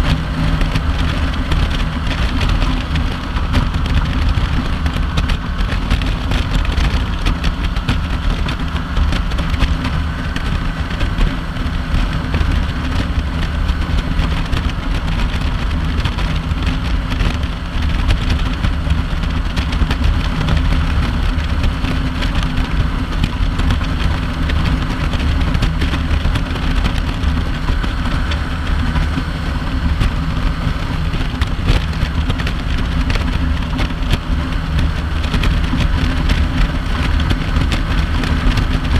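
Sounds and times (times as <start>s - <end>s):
motorcycle engine droning: 0.0s - 38.9s
wind noise on microphone: 0.0s - 38.9s.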